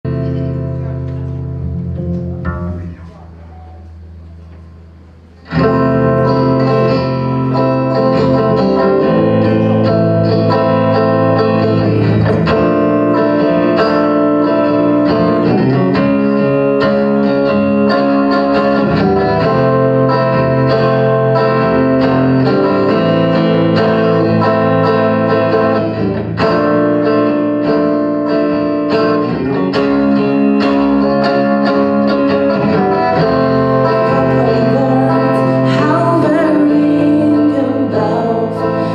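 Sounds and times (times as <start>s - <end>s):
rock band playing: 5.3s - 38.9s.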